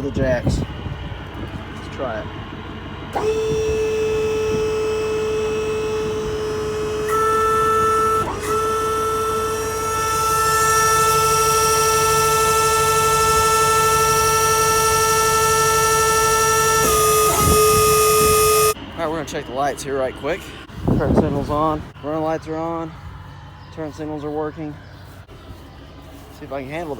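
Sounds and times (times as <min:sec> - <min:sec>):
hydraulic pump whining: 0:00.0 - 0:26.9.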